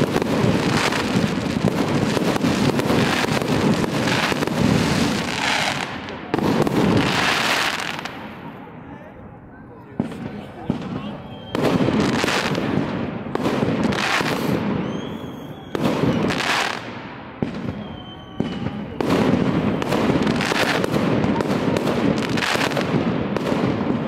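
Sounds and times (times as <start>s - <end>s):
fireworks bursting with bangs: 0.0s - 8.8s, 9.8s - 24.0s
rapid crackling fireworks: 0.0s - 24.0s.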